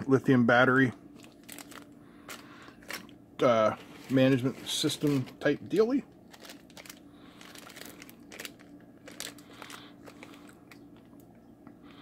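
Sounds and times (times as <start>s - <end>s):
steady low hum: 0.0s - 12.0s
plastic bags crinkling: 1.1s - 11.3s.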